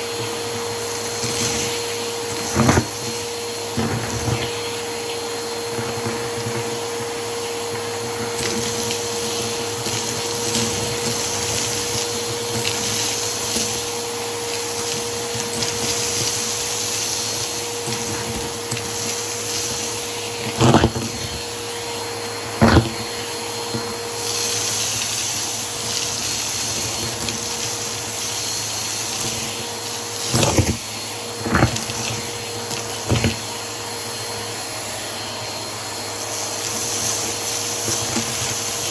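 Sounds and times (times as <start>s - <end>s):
vacuum cleaner whining: 0.0s - 38.9s.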